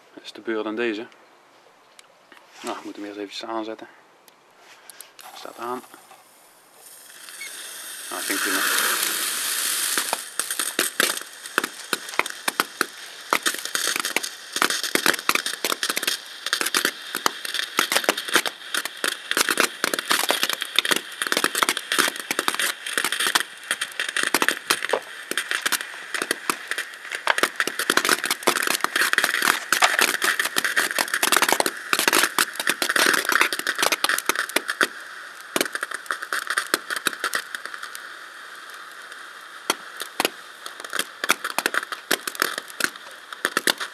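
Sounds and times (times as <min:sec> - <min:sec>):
firework crackling: 0:04.9 - 0:43.9
firework hissing: 0:05.1 - 0:43.9.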